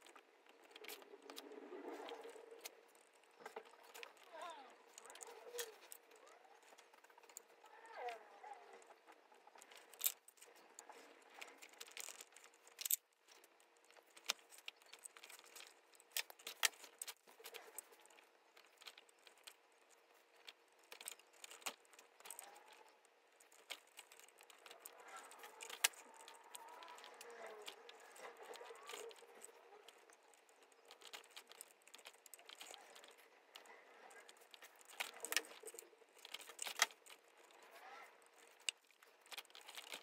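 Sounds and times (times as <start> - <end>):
needles and awl clicking: 0.0 - 40.0.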